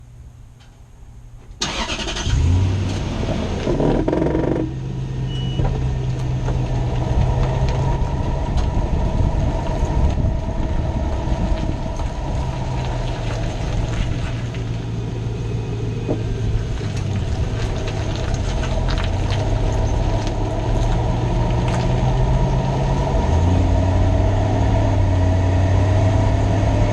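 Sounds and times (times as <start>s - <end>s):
truck engine starting and idling: 1.3s - 26.9s.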